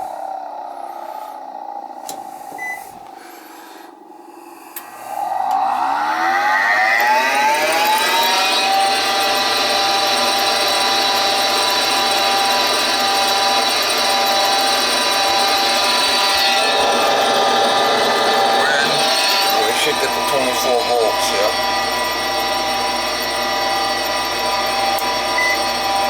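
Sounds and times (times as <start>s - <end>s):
furnace motor whining: 4.6s - 26.0s.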